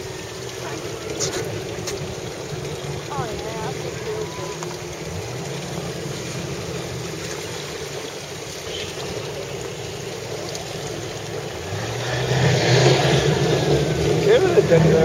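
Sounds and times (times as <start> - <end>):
boat engine running: 0.0 - 15.0
water rushing past hull: 0.0 - 15.0.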